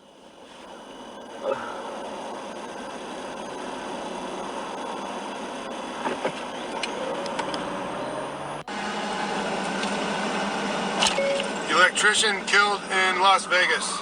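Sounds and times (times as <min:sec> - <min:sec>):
car engine: 0:00.0 - 0:14.0
road noise: 0:00.0 - 0:14.0.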